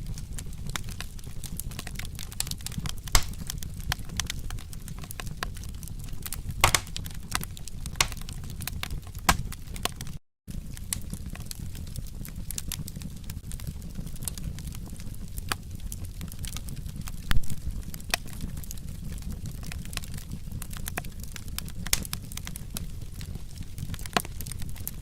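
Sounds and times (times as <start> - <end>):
low rumble of burning: 0.0 - 25.0
wood fire crackling and popping: 0.0 - 25.0.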